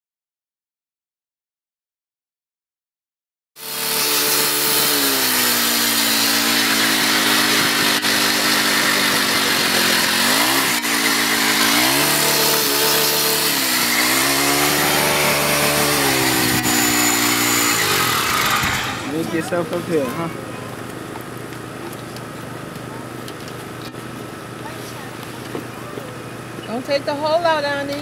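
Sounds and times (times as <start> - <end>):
leaf blower running: 3.6 - 28.0.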